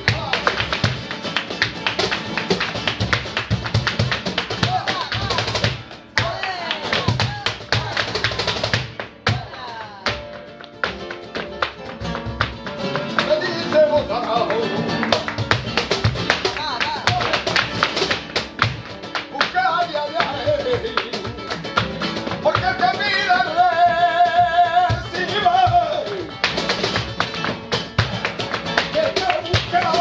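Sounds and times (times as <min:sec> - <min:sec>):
acoustic guitars: 0:00.0 - 0:30.0
cajon drumming: 0:00.0 - 0:30.0
rhythmic hand-clapping: 0:00.0 - 0:30.0.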